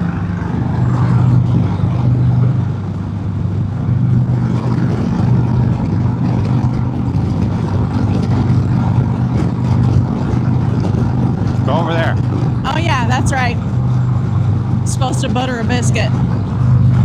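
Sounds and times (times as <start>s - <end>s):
motorcycle engine cruising: 0.0s - 17.0s
road noise: 0.0s - 17.0s
wind noise: 0.0s - 17.0s.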